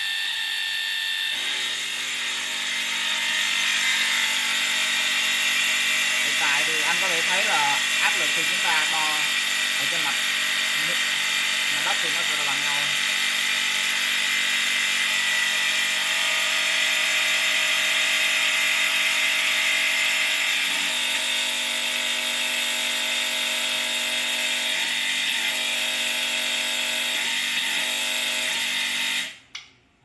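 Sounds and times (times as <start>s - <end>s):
hydraulic pump motor running: 0.0s - 29.7s.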